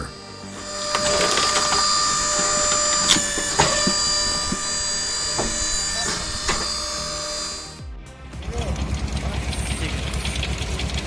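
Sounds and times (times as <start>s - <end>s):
wood splitter whining: 0.0s - 11.0s.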